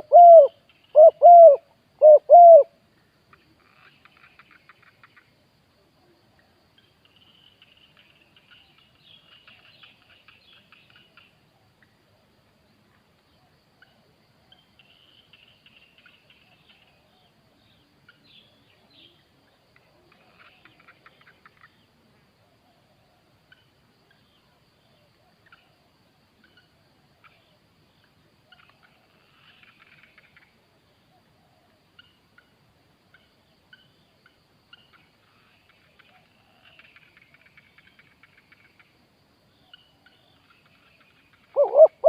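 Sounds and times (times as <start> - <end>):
faint bird chirps and trills: 0.0 - 42.0.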